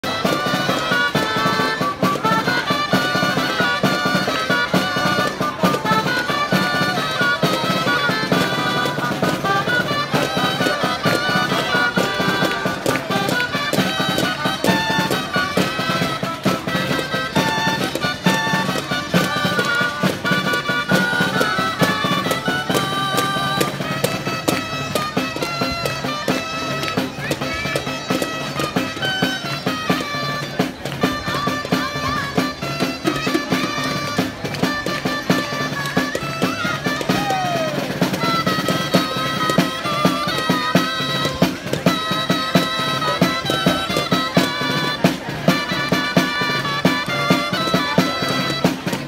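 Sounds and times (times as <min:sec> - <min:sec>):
drum beat: 0:00.0 - 0:49.0
reedy wind instruments melody: 0:00.0 - 0:49.0.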